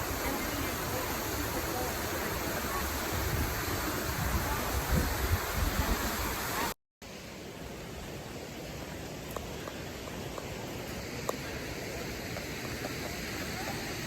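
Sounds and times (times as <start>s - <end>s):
falling water rushing: 0.0s - 14.0s.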